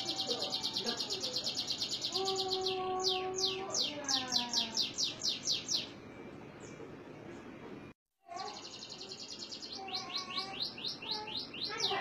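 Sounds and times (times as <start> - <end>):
canary singing: 0.0 - 6.8, 8.3 - 12.0.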